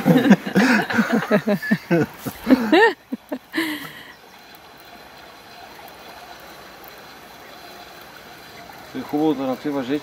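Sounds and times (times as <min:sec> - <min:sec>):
fast-flowing river rushing: 0:00.0 - 0:10.0.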